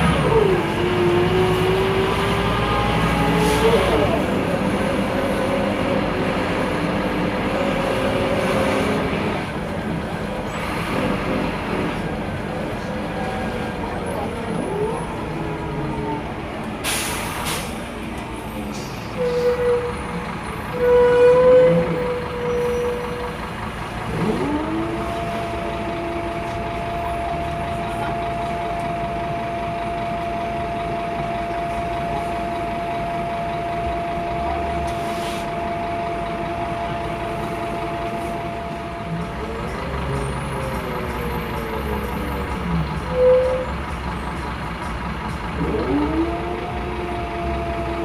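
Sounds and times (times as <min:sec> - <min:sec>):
bus engine: 0:00.0 - 0:48.0
road noise: 0:00.0 - 0:48.0.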